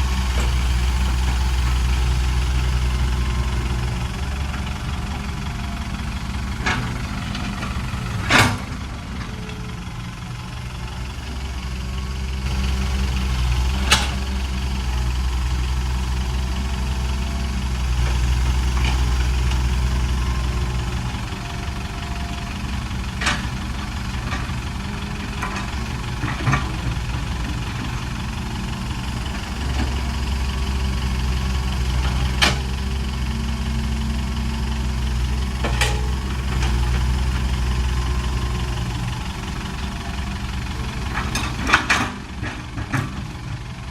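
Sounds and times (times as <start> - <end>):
heavy diesel engine: 0.0 - 43.9.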